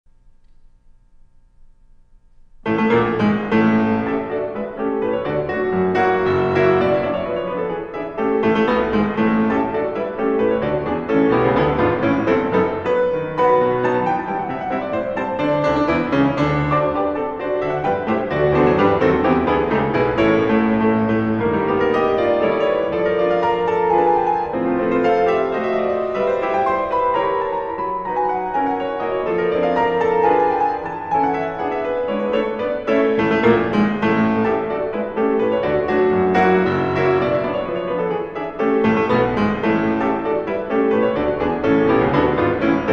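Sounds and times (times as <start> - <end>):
classical solo piano: 2.6 - 42.9.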